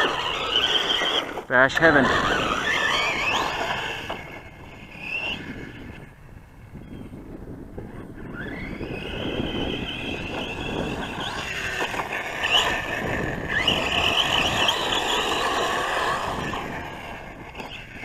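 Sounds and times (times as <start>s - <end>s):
truck driving over dirt: 0.0s - 6.2s, 7.8s - 18.0s
electric motor whining: 0.0s - 18.0s.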